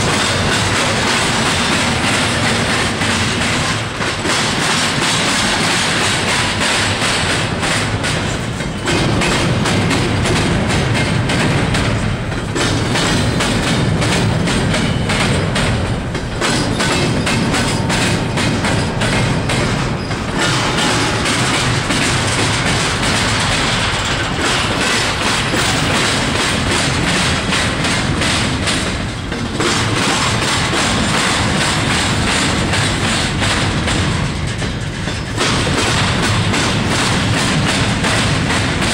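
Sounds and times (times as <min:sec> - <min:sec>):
freight train cars rolling past: 0:00.0 - 0:38.9
wheels clacking over rail joints: 0:00.0 - 0:38.9.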